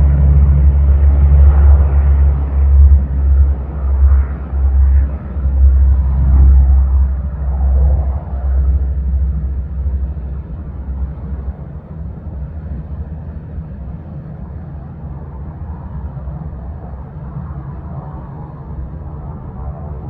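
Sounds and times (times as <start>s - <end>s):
propeller plane engine rumble: 0.0s - 20.0s.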